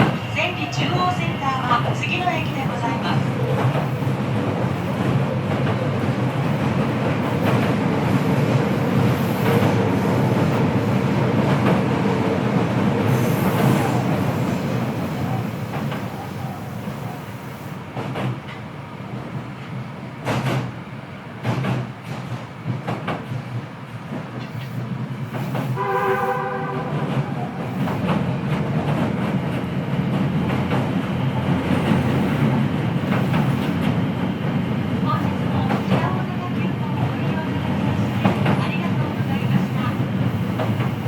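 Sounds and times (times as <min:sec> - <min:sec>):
low train running rumble: 0:00.0 - 0:41.0.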